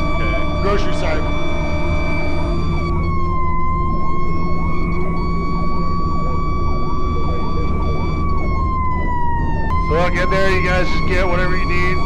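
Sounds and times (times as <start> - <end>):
faint yelping siren: 0.0 - 12.0
fire engine siren wailing: 0.0 - 12.0
road noise: 0.0 - 12.0
truck engine rumble: 0.0 - 12.0.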